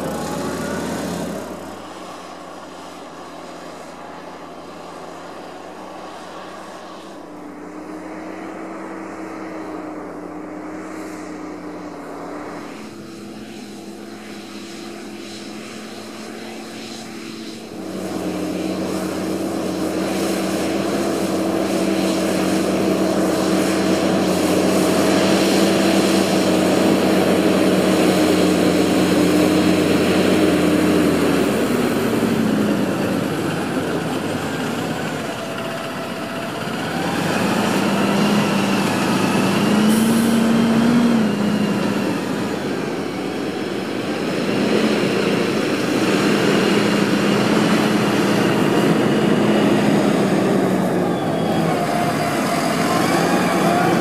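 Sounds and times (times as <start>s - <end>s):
tractor diesel engine working hard: 0.0s - 54.0s.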